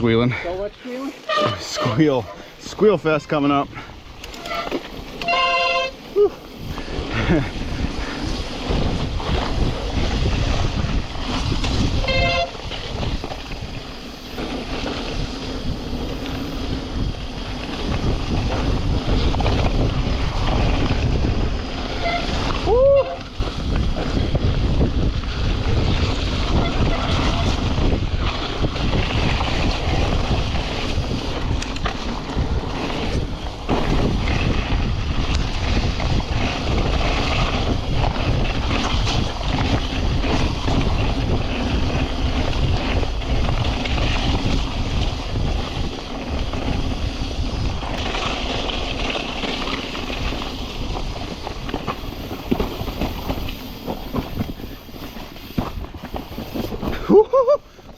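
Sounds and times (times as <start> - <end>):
bike rattling and clattering: 0.0 - 57.9
wind rushing over microphone: 0.0 - 57.9.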